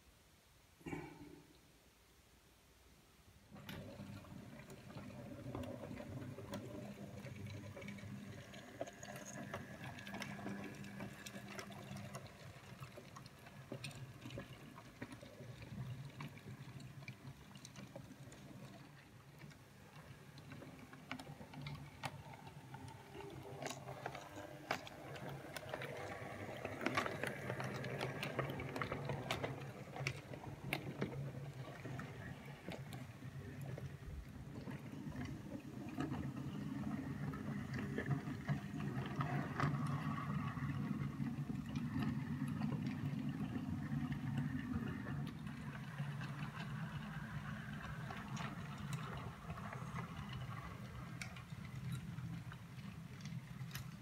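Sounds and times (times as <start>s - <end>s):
model train wheels clicking: 3.5s - 54.0s.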